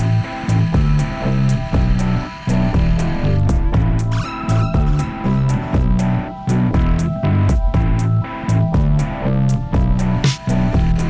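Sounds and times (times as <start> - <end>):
background music with steady beat: 0.0 - 11.0
low bass line: 0.0 - 11.0.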